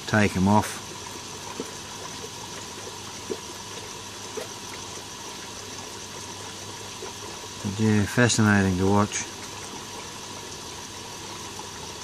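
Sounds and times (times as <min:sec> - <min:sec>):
pump humming: 0:00.0 - 0:12.0
water trickling: 0:00.0 - 0:12.0.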